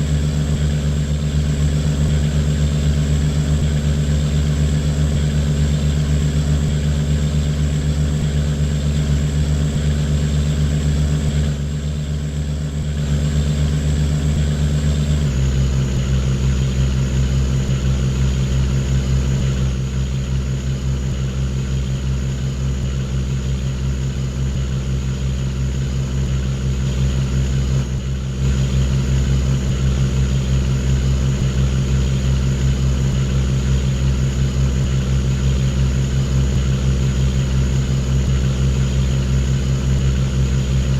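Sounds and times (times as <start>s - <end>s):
boat engine throbbing: 0.0s - 40.9s.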